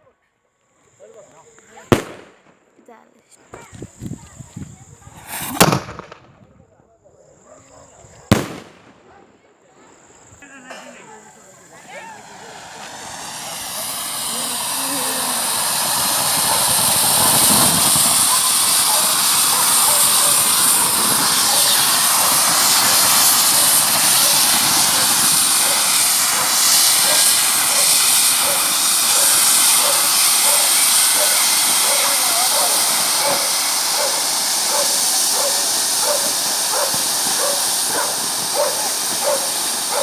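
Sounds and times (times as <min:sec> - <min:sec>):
firework fountain hissing: 0:00.8 - 0:06.4, 0:07.9 - 0:40.0.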